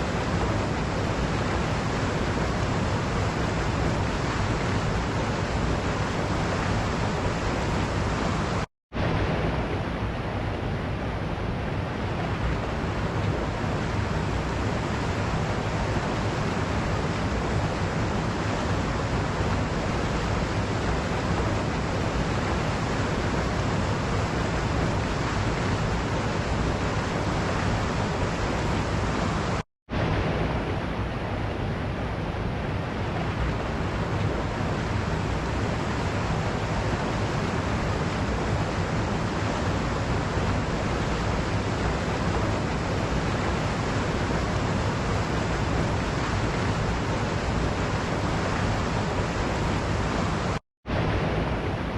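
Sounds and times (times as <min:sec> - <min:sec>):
waterfall rushing: 0:00.0 - 0:10.1, 0:12.0 - 0:31.1, 0:32.9 - 0:51.9.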